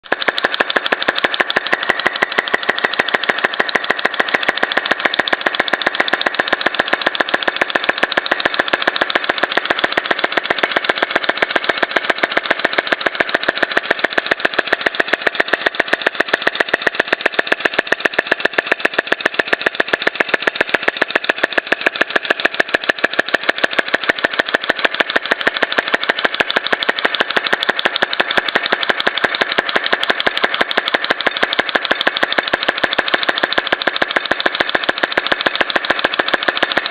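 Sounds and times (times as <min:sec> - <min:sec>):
small engine clacking: 0:00.0 - 0:36.9.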